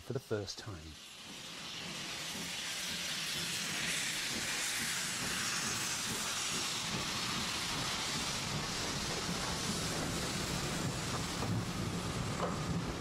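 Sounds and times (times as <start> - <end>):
hiss of escaping steam: 0.2 - 13.0
train rumbling: 0.9 - 13.0.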